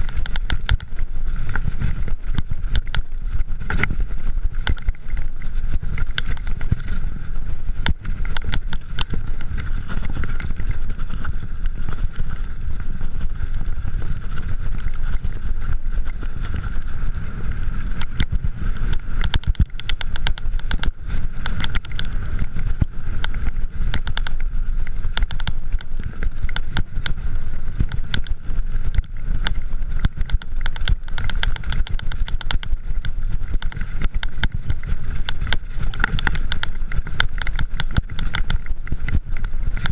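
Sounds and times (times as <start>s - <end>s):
bike rattling over bumps: 0.0s - 39.9s
wind on microphone: 0.0s - 39.9s.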